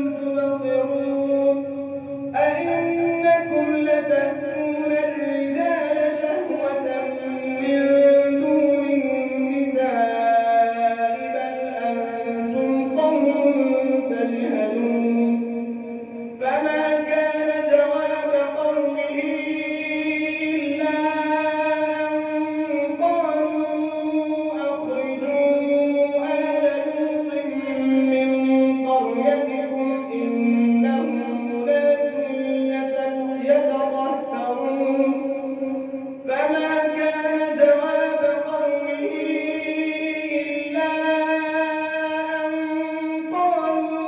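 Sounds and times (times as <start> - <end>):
person chanting recitation: 0.0 - 44.0.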